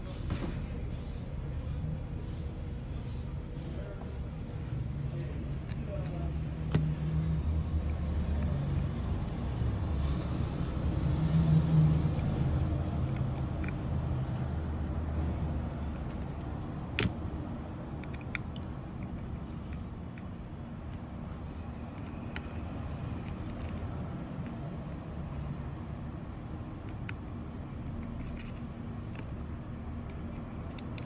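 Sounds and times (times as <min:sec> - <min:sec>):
motor vehicle rumble: 0:00.0 - 0:31.0.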